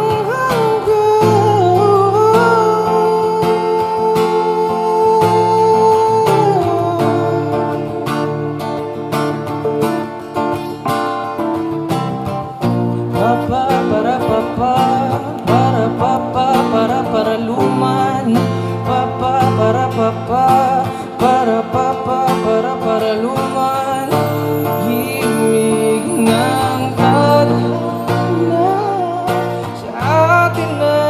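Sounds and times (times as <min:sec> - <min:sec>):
man singing: 0:00.0 - 0:08.6, 0:13.1 - 0:31.0
acoustic guitar strumming chords: 0:00.0 - 0:31.0.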